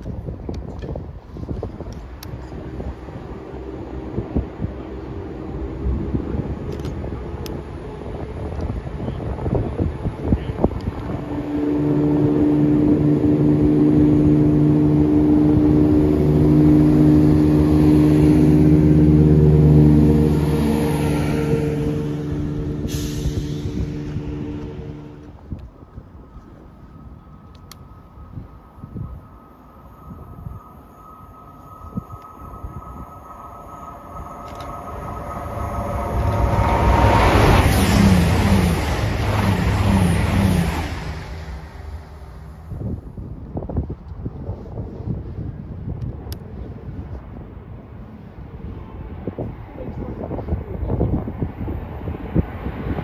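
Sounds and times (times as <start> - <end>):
diesel train engine drone: 0.0 - 53.0.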